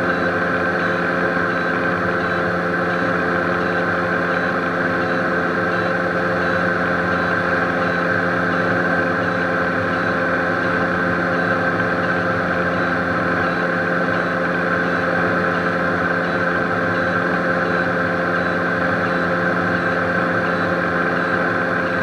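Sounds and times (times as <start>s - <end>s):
aircraft engine running: 0.0s - 22.0s.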